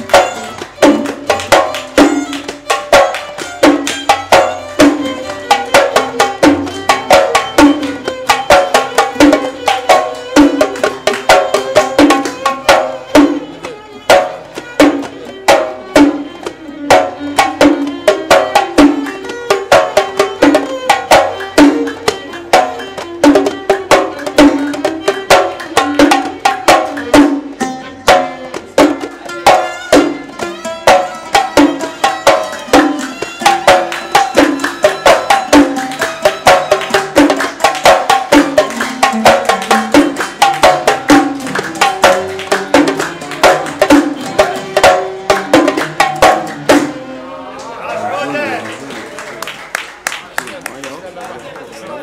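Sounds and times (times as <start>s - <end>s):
hand drums beat: 0.0s - 47.1s
plucked oud melody: 0.0s - 47.2s
violin: 0.0s - 48.7s.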